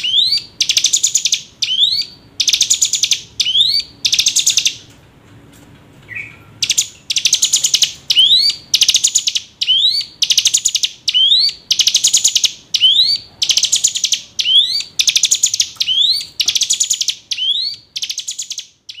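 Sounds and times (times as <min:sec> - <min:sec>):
bird singing buzzy trill: 0:00.0 - 0:04.9, 0:06.1 - 0:19.0.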